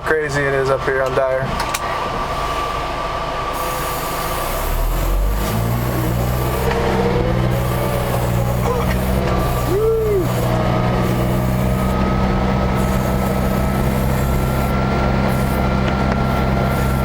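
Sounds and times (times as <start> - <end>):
steady high whine: 0.0 - 17.0
snow vehicle engine drone: 0.6 - 17.0.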